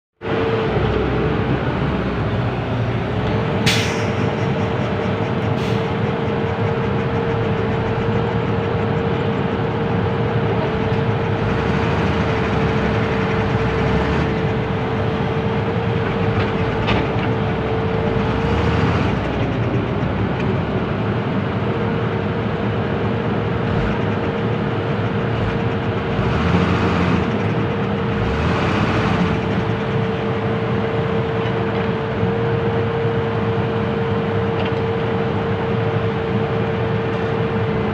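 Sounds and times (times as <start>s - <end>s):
truck diesel engine whining: 0.2s - 37.9s.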